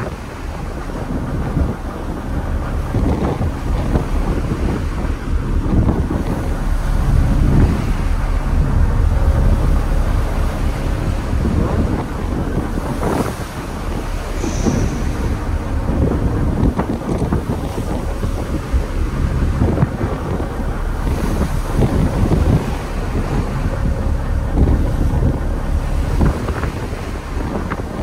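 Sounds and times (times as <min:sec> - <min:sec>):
boat wash breaking and foaming: 0:00.0 - 0:28.0
wind buffeting the microphone: 0:00.0 - 0:28.0.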